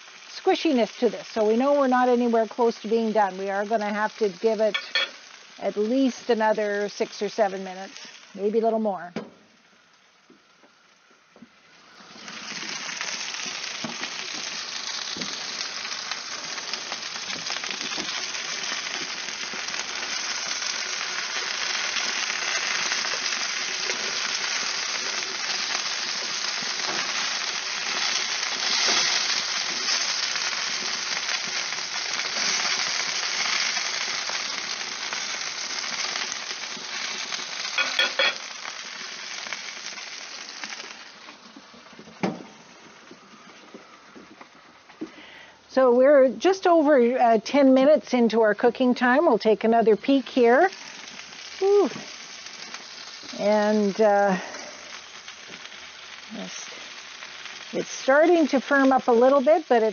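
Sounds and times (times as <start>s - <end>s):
meat sizzling on a grill: 0.0s - 59.9s.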